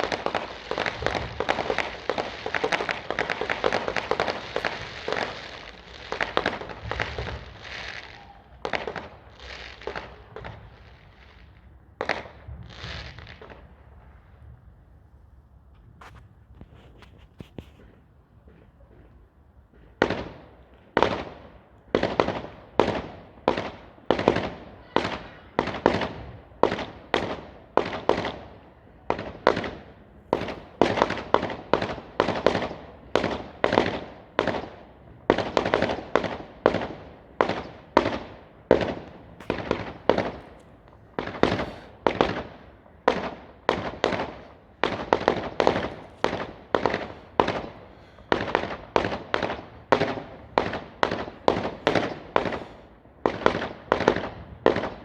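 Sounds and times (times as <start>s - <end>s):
fireworks bangs: 0.0s - 14.6s, 15.7s - 55.0s.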